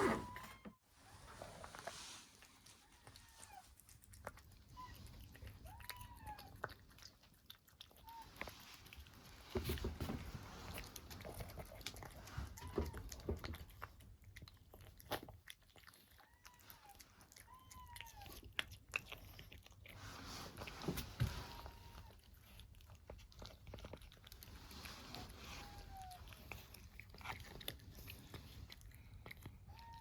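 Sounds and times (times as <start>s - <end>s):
cat chewing with crunching: 1.3s - 30.0s.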